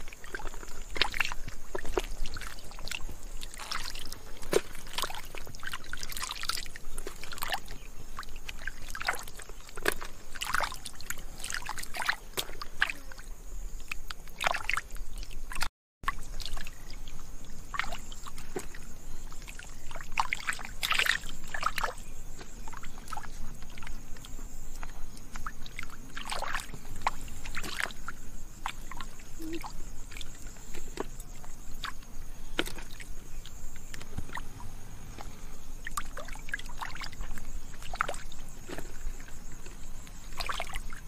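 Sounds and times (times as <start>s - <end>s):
muddy water splashing: 0.0s - 41.0s.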